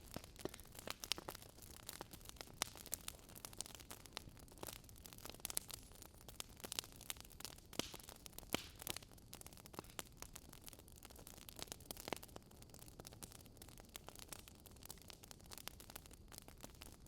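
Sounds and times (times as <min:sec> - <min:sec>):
burning logs crackling: 0:00.0 - 0:17.0.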